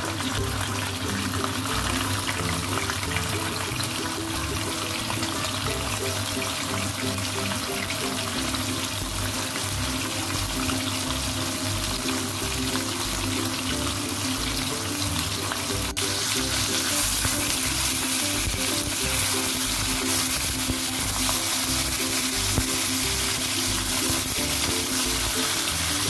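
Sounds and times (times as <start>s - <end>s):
background music: 0.0s - 26.0s
fish sizzling in hot oil: 0.0s - 26.0s.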